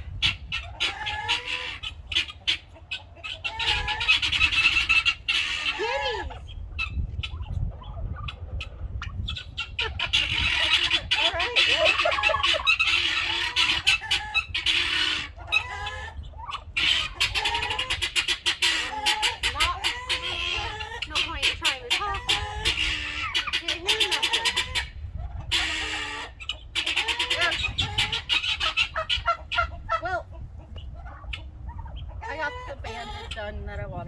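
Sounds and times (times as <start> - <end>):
turkeys clucking and calling: 0.0 - 33.7.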